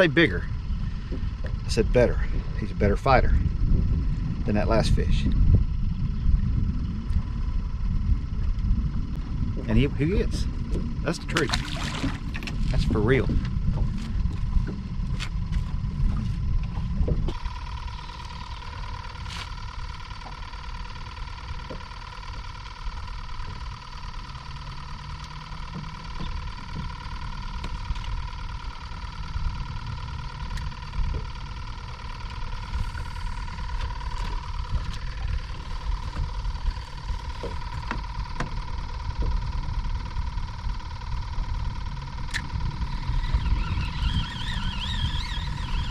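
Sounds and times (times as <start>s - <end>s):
wind rumbling on microphone: 0.0s - 23.7s, 24.5s - 45.9s
high-pitched hum: 0.0s - 45.9s.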